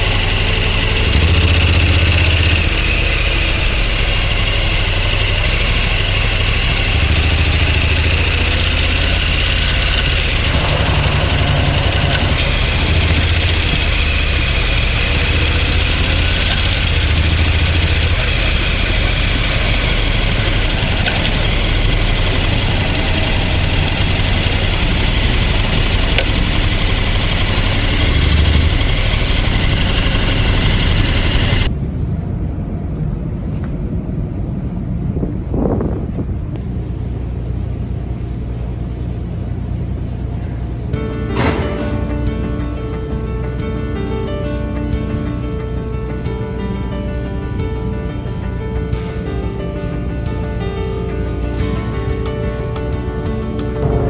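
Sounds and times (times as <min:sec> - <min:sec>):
engine running with hiss: 0:00.0 - 0:54.0.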